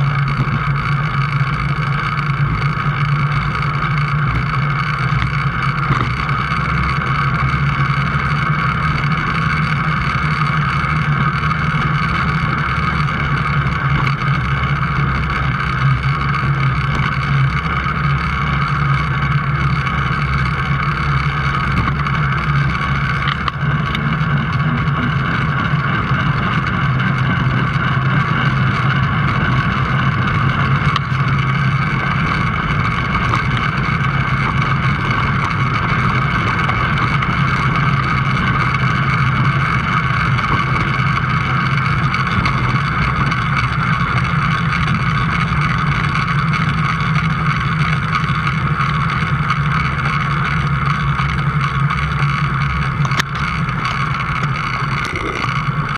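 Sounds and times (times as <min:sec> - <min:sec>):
vehicle engine humming: 0:00.0 - 0:55.9.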